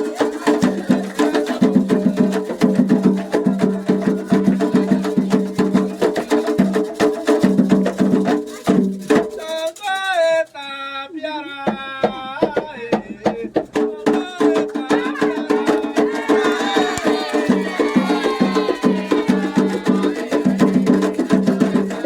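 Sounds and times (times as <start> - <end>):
single voice singing: 0.0 - 6.7, 9.4 - 22.0
singing: 0.0 - 7.1, 9.3 - 22.0
hand drums: 0.0 - 9.8, 11.6 - 22.0.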